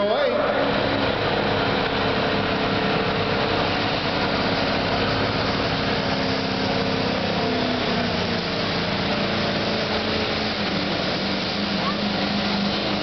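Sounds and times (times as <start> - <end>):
diesel engine at full throttle: 0.0 - 13.0.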